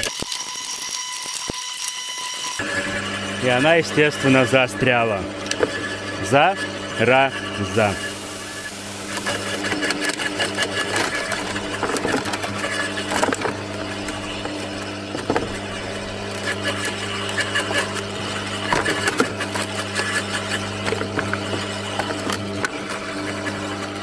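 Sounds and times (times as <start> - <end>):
garden shredder motor hum: 0.0 - 24.0.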